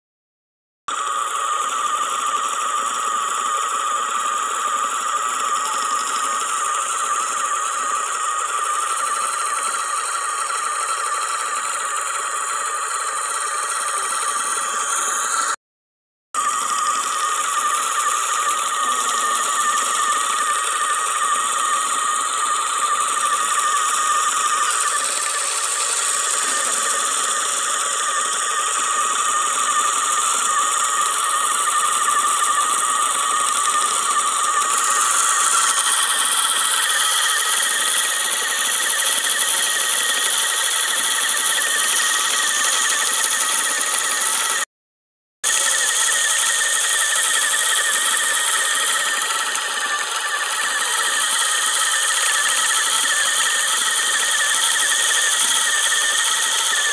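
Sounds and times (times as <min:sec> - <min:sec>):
spinning wheel motor whine: 0:00.9 - 0:15.6, 0:16.4 - 0:44.7, 0:45.4 - 0:56.9.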